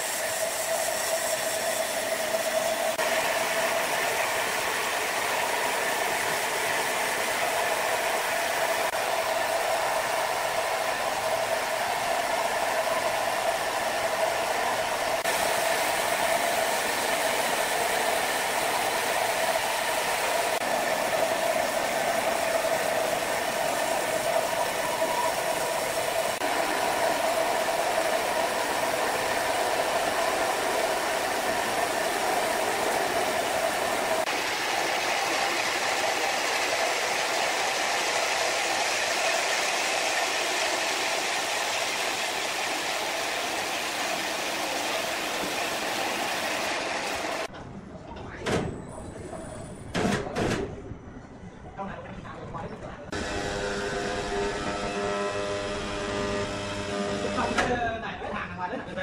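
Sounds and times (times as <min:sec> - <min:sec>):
band saw cutting log: 0:00.0 - 0:47.5, 0:53.1 - 0:57.8.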